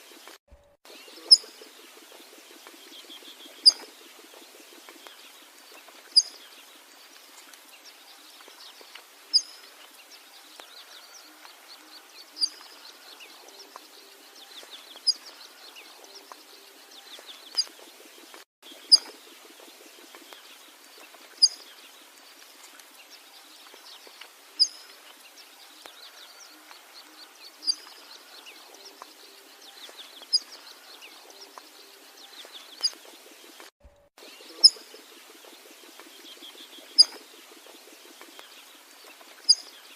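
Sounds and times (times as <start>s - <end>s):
chorus of birds: 0.0s - 39.9s.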